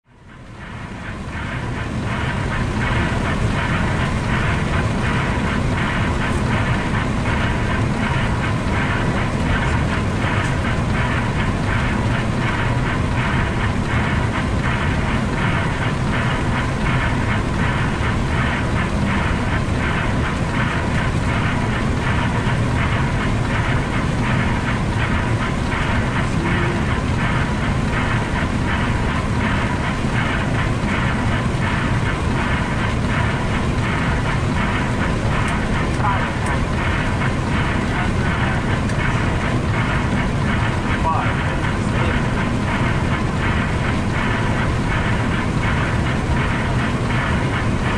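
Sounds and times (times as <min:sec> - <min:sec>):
jet airflow and engines: 0:00.0 - 0:47.9.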